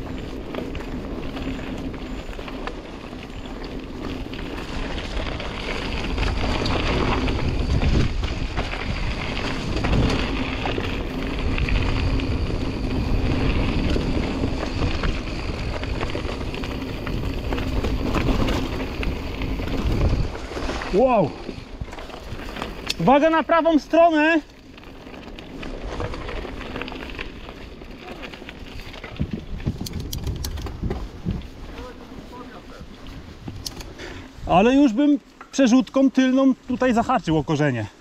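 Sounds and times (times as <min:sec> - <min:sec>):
wind noise on microphone: 0:00.0 - 0:23.1, 0:24.7 - 0:34.8
bike and chain rattling: 0:00.0 - 0:38.0
bike tyres rolling over dirt: 0:00.0 - 0:38.0.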